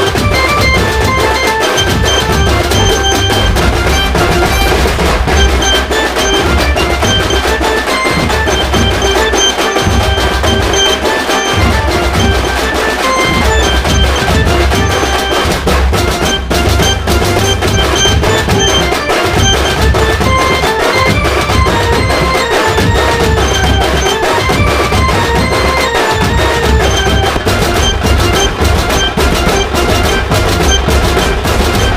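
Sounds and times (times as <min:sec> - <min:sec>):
music with drum beat: 0:00.0 - 0:31.9.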